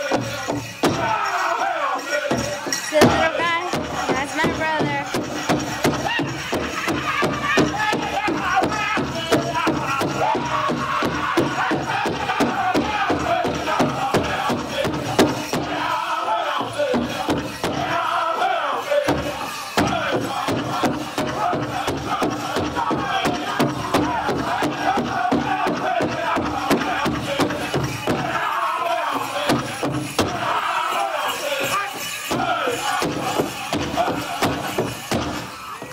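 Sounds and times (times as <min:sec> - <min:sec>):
fast beat on big drum: 0:00.0 - 0:01.3, 0:02.3 - 0:18.2, 0:19.0 - 0:30.9, 0:31.6 - 0:35.9
group singing in high voices: 0:00.0 - 0:35.9.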